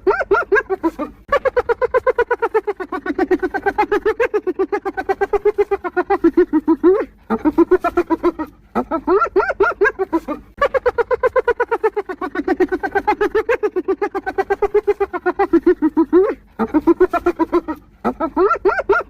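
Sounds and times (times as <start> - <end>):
hyena laughing: 0.0 - 19.0.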